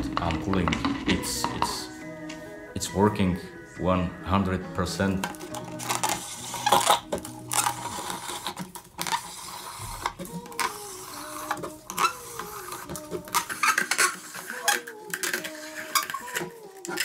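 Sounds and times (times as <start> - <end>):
plastic bottle crackling and scraping: 0.0 - 2.0, 4.7 - 17.0.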